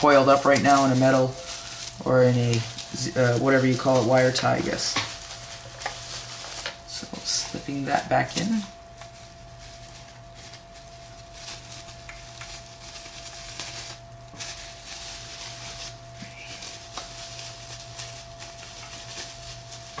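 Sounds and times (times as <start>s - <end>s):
faint steady hum: 0.0s - 20.0s
plastic bag crinkling: 0.0s - 20.0s.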